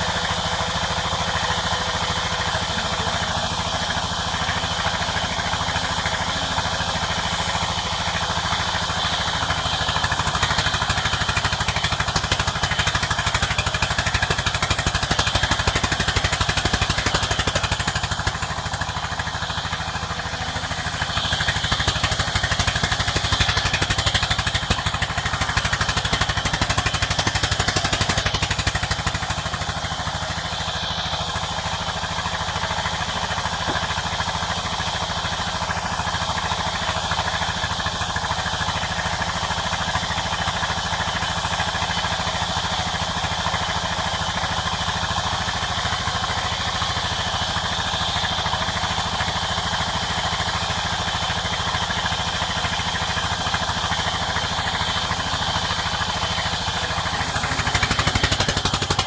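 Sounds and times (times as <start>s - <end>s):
sawmill machinery pulsing: 0.0s - 59.0s.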